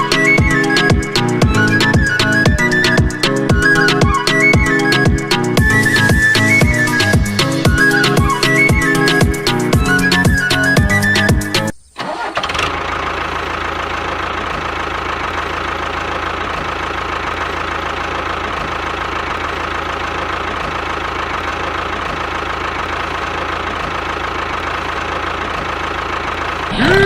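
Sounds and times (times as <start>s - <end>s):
small tractor engine whining: 0.0s - 27.0s.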